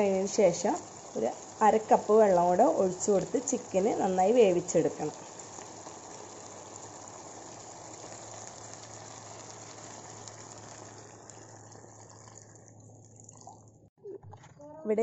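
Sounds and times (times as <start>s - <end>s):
chicken sizzling in a pan: 0.0s - 12.2s
water pouring into pan: 0.1s - 13.8s.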